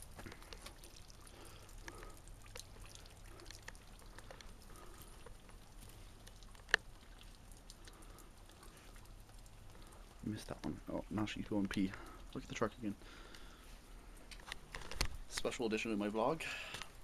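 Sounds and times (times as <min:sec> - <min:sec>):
soft drip-like ticks: 0:00.0 - 0:17.0
wet snow pattering: 0:00.0 - 0:17.0.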